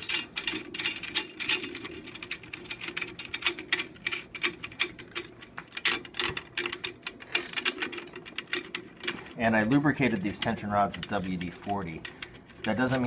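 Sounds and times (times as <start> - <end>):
small metallic clicks: 0.0 - 13.0.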